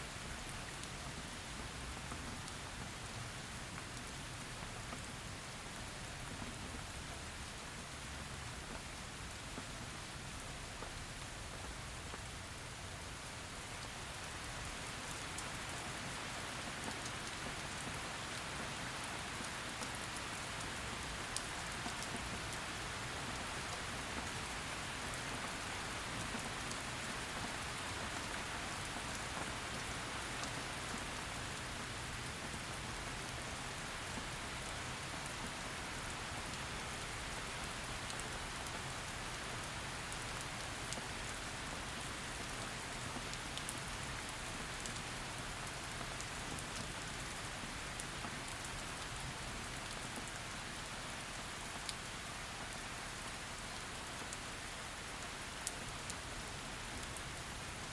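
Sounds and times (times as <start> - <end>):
heavy rain falling: 8.6 - 57.9.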